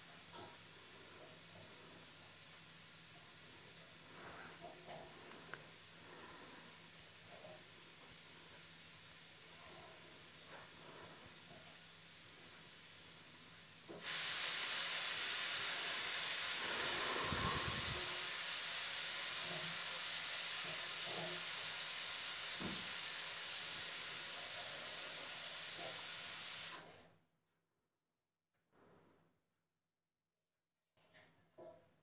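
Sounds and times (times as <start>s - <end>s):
steady even hiss: 0.0s - 26.7s.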